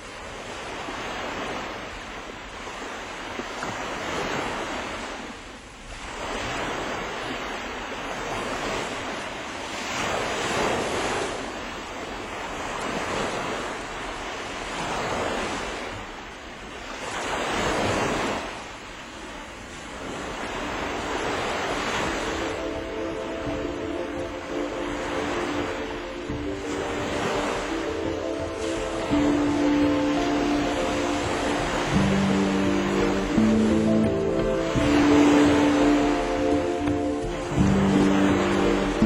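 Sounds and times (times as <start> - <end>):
sea waves breaking on shore: 0.0 - 39.0.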